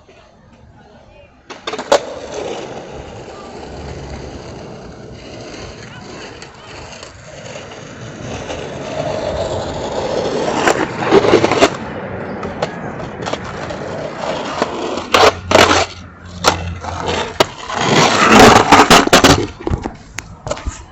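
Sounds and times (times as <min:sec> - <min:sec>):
skateboard wheels rolling on pavement: 0:00.0 - 0:20.9
skateboard clacks and knocks: 0:01.5 - 0:20.9.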